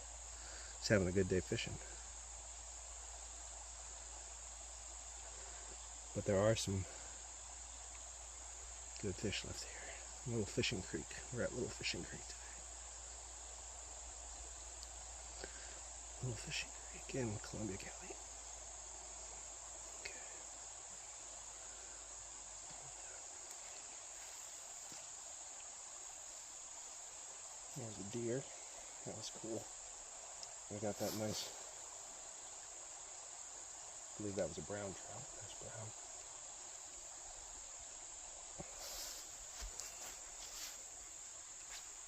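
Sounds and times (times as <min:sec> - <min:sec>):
insects trilling: 0:00.0 - 0:42.0
stream flowing: 0:00.0 - 0:42.0.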